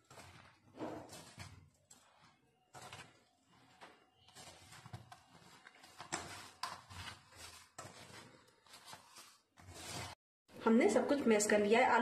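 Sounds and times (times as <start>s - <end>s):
hand mashing soft food in bowl: 0.0s - 10.2s.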